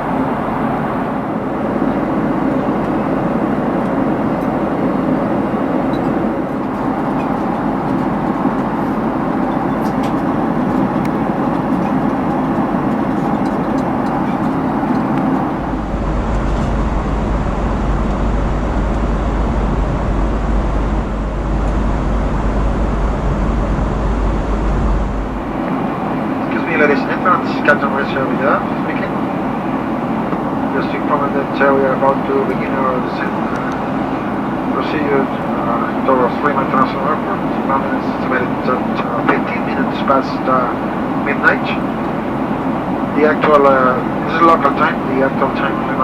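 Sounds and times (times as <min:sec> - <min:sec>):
airliner cabin noise: 0:00.0 - 0:46.0
heavy low rumble: 0:00.0 - 0:46.0.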